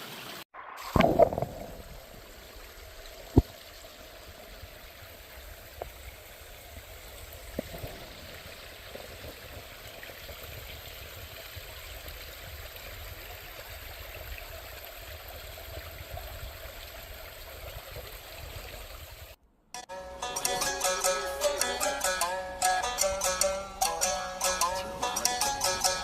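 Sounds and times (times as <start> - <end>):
creek water running: 0.0 - 19.4, 20.0 - 26.0.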